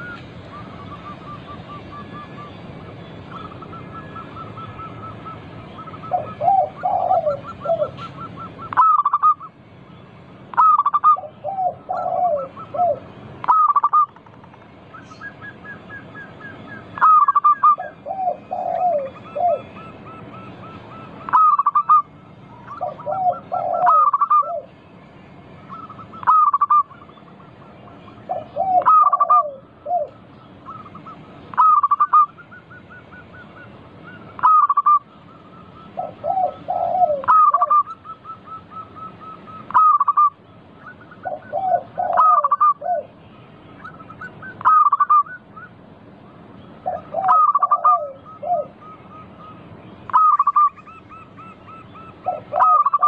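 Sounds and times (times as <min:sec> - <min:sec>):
dove cooing: 0:00.0 - 0:09.6, 0:10.5 - 0:24.8, 0:25.6 - 0:43.2, 0:43.8 - 0:45.8, 0:46.8 - 0:53.0
high ticking bird notes: 0:00.0 - 0:53.0.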